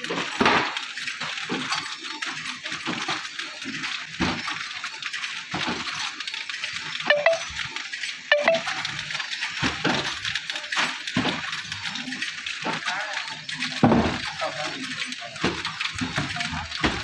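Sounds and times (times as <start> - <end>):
wrapping machine clattering: 0.0 - 17.0.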